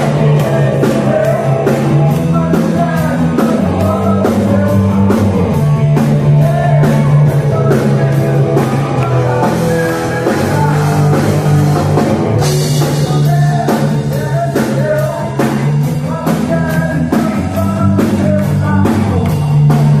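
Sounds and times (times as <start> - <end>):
person singing: 0.0 - 20.0
rock band playing: 0.0 - 20.0.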